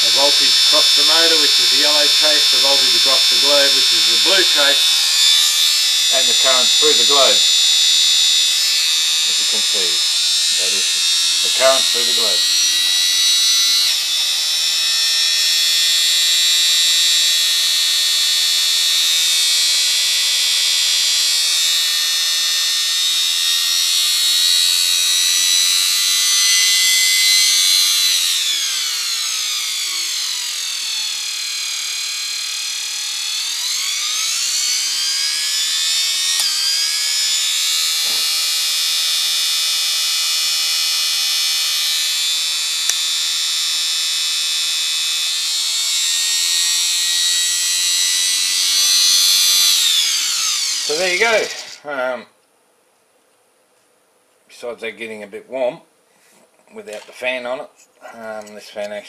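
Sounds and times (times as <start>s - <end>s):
vacuum cleaner motor whine: 0.0s - 51.8s.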